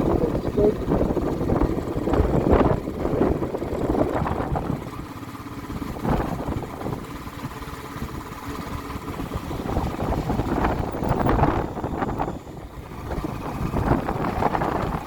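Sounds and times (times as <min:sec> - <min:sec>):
vehicle engine running: 0:00.0 - 0:15.0
wind and road noise: 0:00.0 - 0:15.0.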